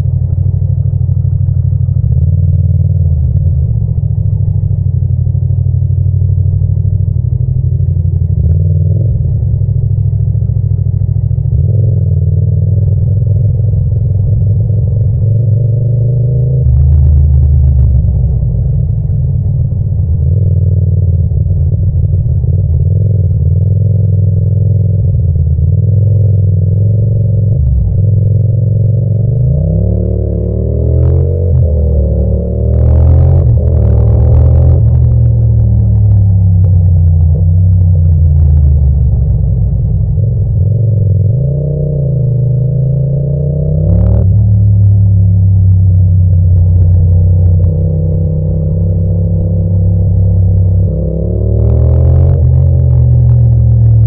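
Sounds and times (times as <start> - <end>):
city traffic: 0.0 - 54.0
motorcycle engine revving: 0.0 - 54.0.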